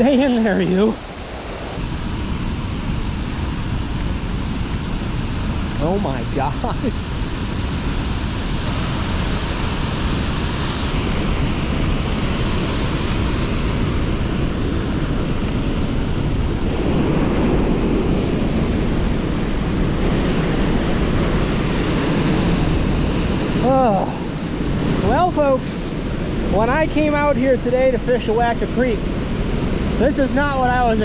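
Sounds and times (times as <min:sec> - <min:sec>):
waterfall rushing: 0:00.0 - 0:16.8, 0:17.4 - 0:31.0.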